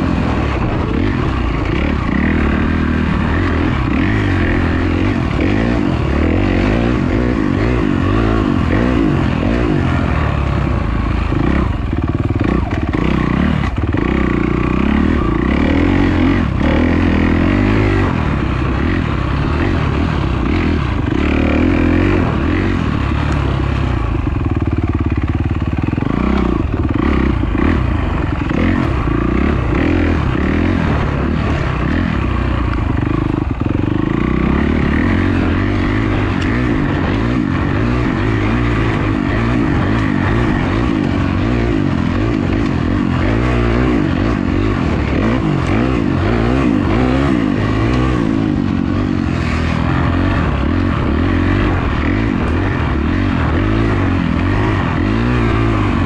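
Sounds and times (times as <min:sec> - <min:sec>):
dirt bike engine running hard: 0:00.0 - 0:56.0.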